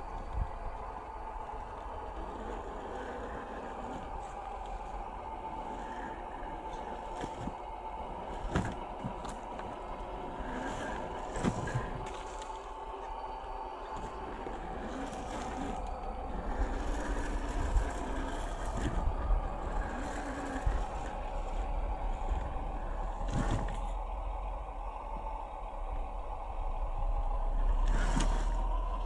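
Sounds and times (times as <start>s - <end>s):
electric motor whining: 0.0s - 24.2s, 26.6s - 29.0s.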